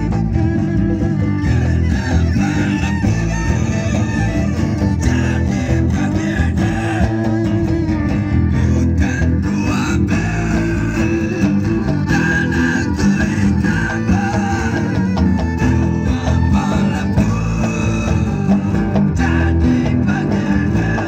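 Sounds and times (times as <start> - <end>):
acoustic guitar playing: 0.0 - 21.0
man singing into a microphone: 1.3 - 21.0.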